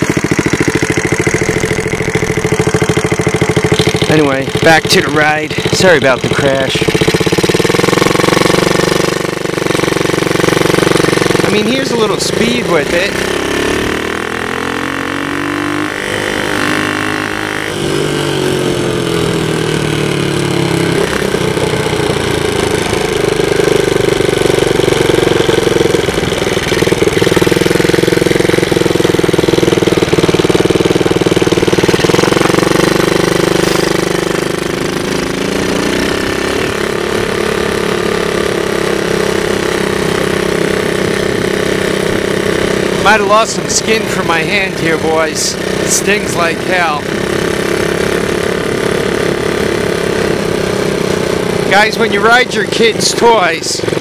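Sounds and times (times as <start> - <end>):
quad bike engine buzzing: 0.0 - 54.0.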